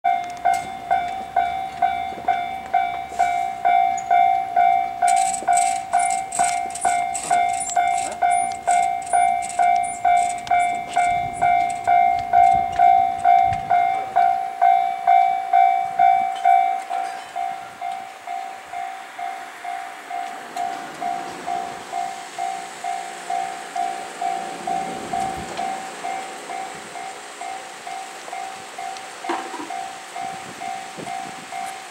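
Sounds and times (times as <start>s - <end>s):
level-crossing warning bell ringing: 0.0s - 31.9s.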